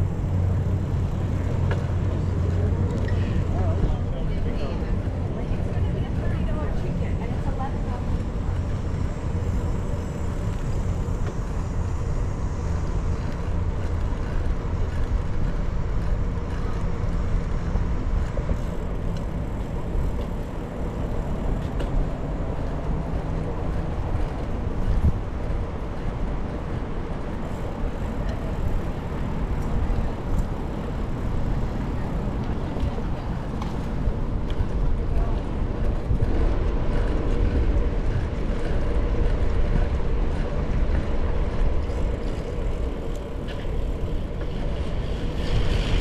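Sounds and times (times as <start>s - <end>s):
bicycle rolling noise: 0.0s - 46.0s
wind rumble: 0.0s - 46.0s.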